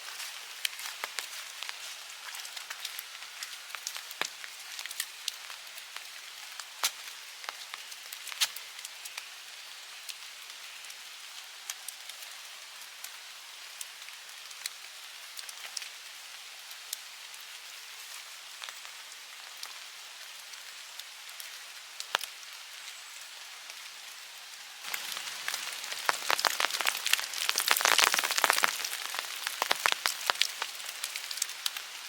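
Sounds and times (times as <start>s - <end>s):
raindrops falling: 0.0s - 32.0s.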